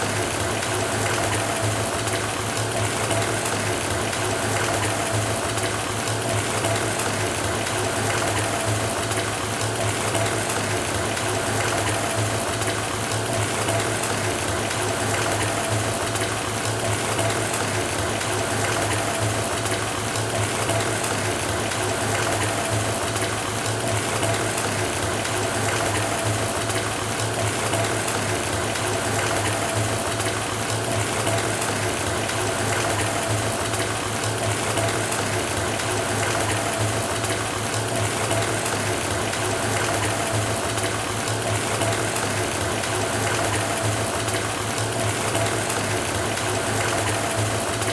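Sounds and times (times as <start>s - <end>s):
water running into bathtub: 0.0s - 47.9s.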